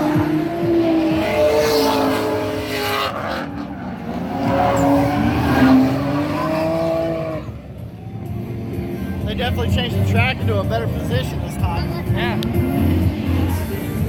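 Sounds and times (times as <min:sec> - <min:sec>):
car engine noise: 0:00.0 - 0:14.0
tires squealing: 0:00.0 - 0:14.0.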